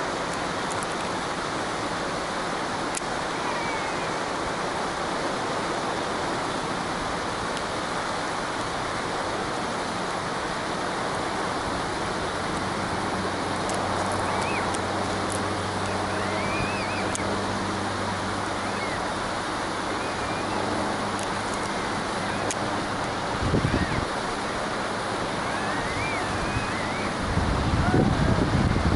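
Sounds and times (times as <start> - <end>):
helicopter rotor and turbines: 4.0 - 27.7.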